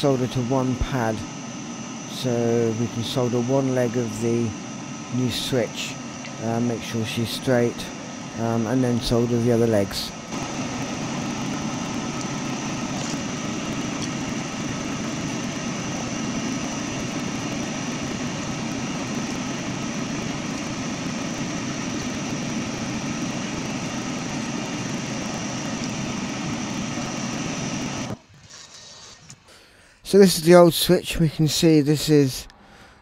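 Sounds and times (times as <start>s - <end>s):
mechanical whir: 0.0s - 29.4s
faint high whining tones: 0.0s - 32.9s.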